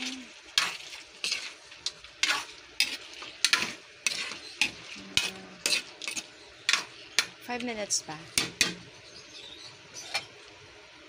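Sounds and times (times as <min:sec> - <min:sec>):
spatula scraping in a pan: 0:00.0 - 0:07.7, 0:08.3 - 0:09.0, 0:09.9 - 0:10.5
frying sizzle: 0:00.0 - 0:11.0.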